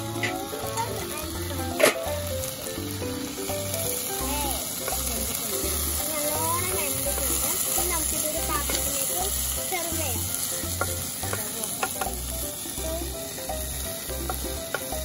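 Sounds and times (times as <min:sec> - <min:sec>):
background music with steady beat: 0:00.0 - 0:15.0
okra sizzling in a pan: 0:00.0 - 0:15.0.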